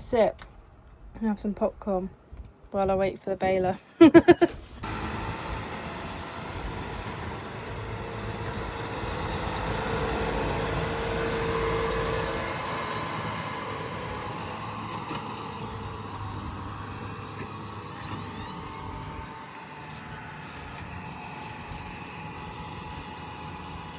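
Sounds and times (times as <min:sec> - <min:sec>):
tractor engine running: 0:04.2 - 0:23.9.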